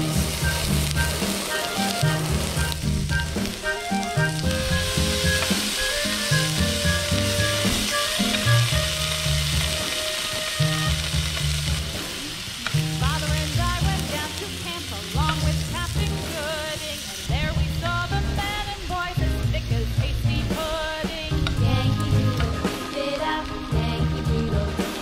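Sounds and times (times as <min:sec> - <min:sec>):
background music with steady beat: 0:00.0 - 0:25.0
meat sizzling in a frying pan: 0:00.0 - 0:25.0.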